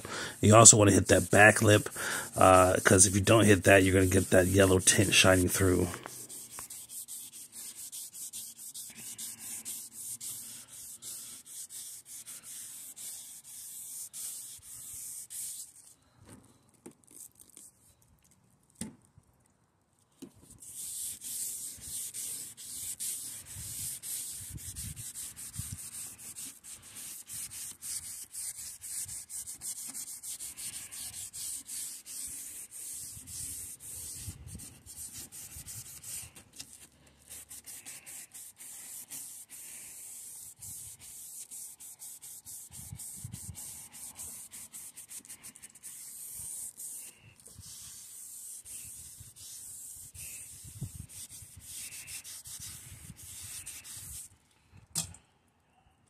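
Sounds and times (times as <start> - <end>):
sanding plastic with scratchy rasp: 0.0 - 16.0, 20.4 - 54.3.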